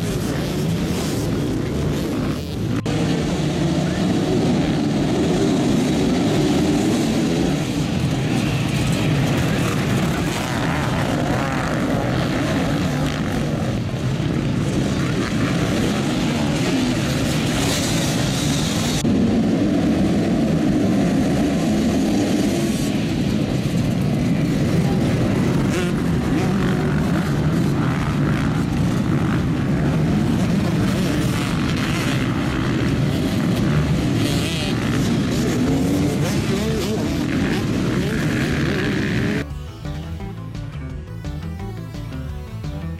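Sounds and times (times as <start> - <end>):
motocross bikes revving and accelerating: 0.0 - 40.6.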